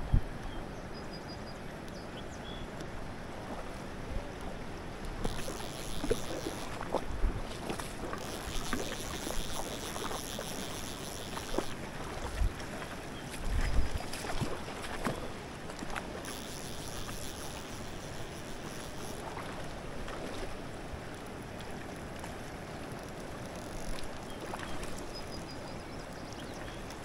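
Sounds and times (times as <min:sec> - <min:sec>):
small water splashes: 0:04.4 - 0:27.0.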